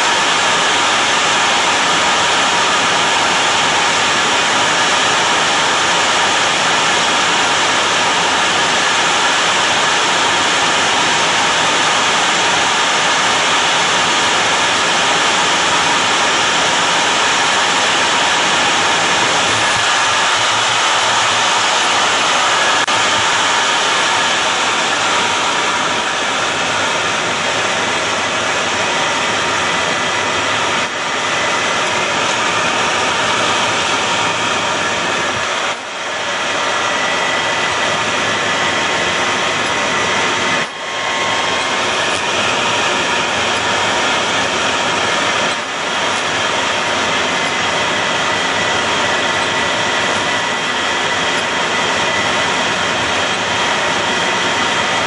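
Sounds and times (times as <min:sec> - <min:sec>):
jet engines running at low power: 0:00.0 - 0:55.0.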